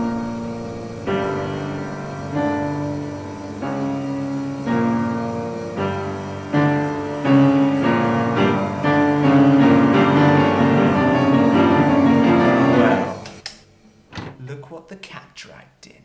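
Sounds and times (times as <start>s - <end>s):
piano chords: 0.0s - 13.4s.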